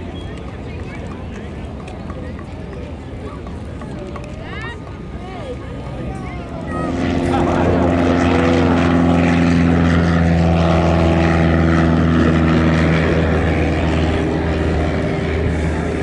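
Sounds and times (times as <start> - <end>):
propeller plane engine: 0.0 - 16.0.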